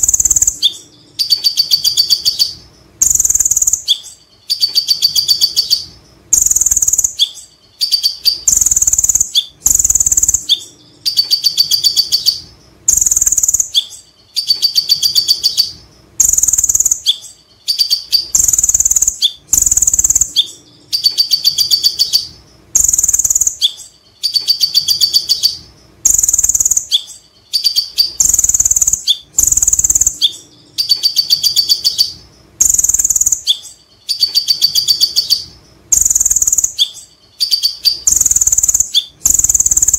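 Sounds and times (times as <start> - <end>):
sunbird chattering song: 0.0 - 39.9.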